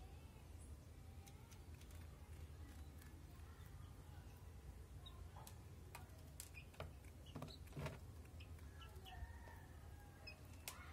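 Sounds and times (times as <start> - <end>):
faint low hum: 0.0 - 10.9.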